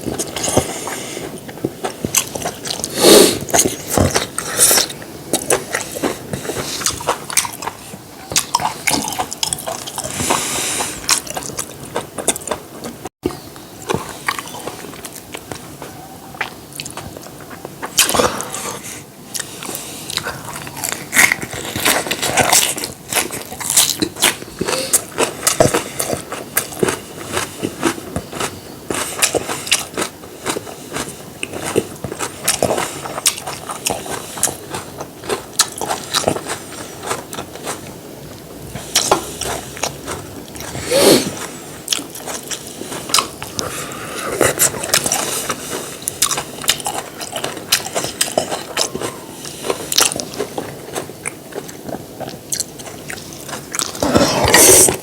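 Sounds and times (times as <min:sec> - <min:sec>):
chewing and crunchy bites: 0:00.0 - 0:55.0
mouth clicks and smacks: 0:00.0 - 0:55.0.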